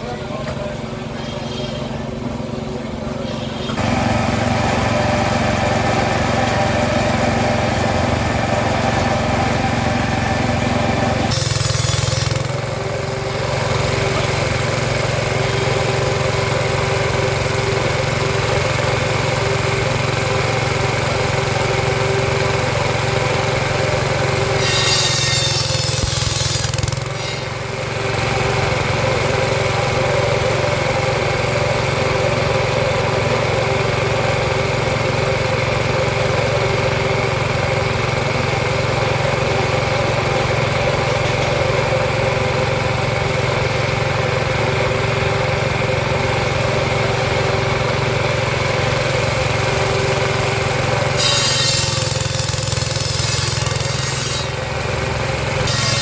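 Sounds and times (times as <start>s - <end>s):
engine running with hum: 0.0s - 56.0s.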